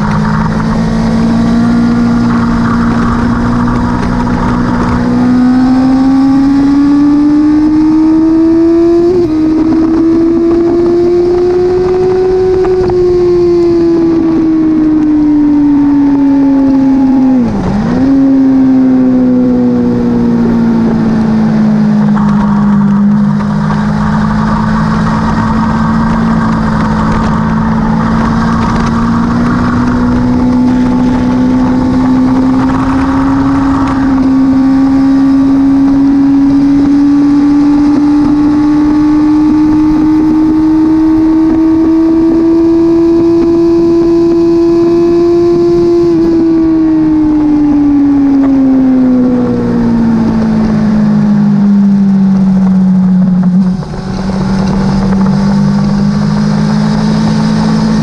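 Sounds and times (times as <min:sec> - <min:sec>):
motorcycle engine running hard: 0:00.0 - 0:58.0
wind rushing over microphone: 0:00.0 - 0:58.0.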